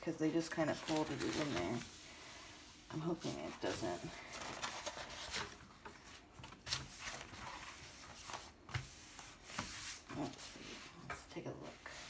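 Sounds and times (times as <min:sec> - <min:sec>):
canvas and paper crinkling: 0:00.0 - 0:11.0.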